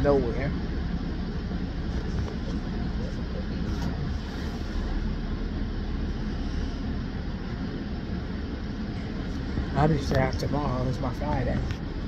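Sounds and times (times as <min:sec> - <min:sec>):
bus rumble inside cabin: 0:00.0 - 0:12.0.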